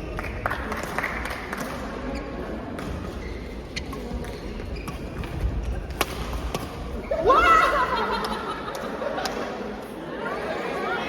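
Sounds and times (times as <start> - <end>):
background murmur: 0.0 - 11.0.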